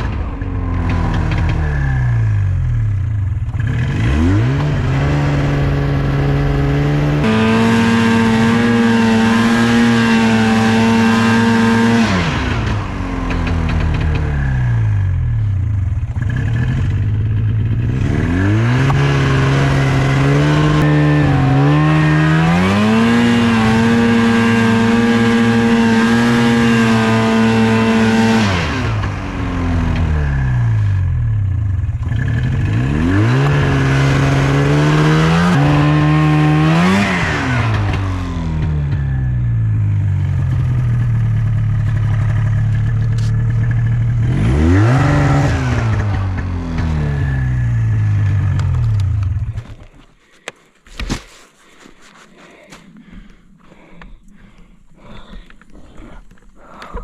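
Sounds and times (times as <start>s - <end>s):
snowmobile engine revving: 0.0s - 49.7s.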